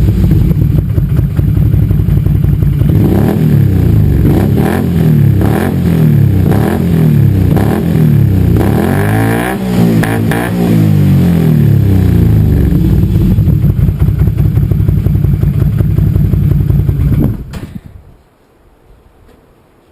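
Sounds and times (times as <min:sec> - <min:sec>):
atv engine revving: 0:00.0 - 0:17.5.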